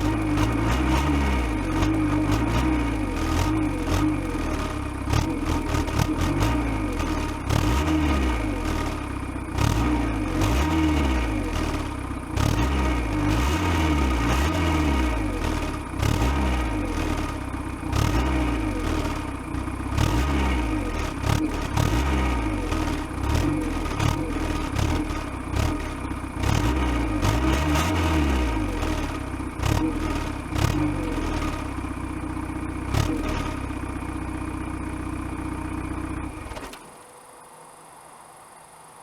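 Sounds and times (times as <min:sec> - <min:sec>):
diesel engine revving: 0:00.0 - 0:36.8.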